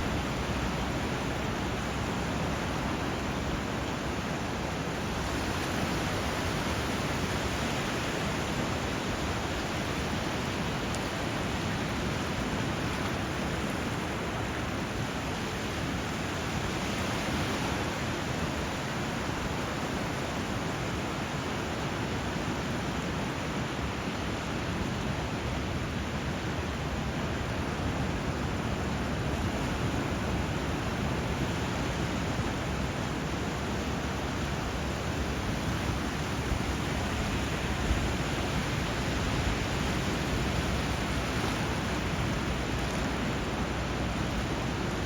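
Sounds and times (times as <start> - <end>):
rushing water: 0.0 - 45.0.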